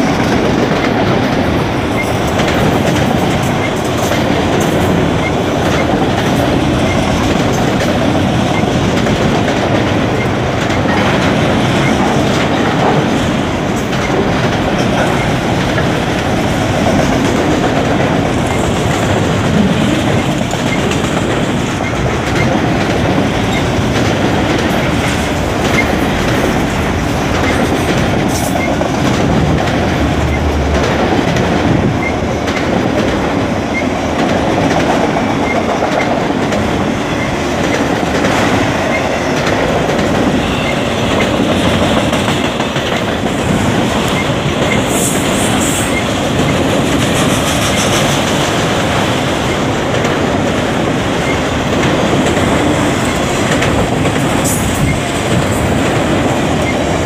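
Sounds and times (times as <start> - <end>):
steel wheels rolling on rails: 0.0 - 57.0.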